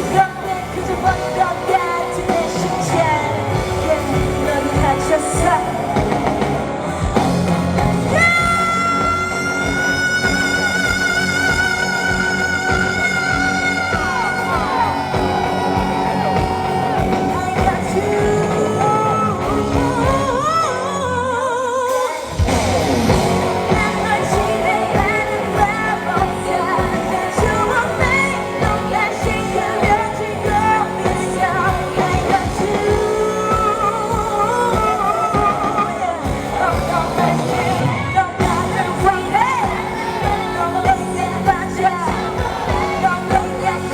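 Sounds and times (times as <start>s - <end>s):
live pop-rock band: 0.0s - 43.9s
woman singing: 0.0s - 43.9s.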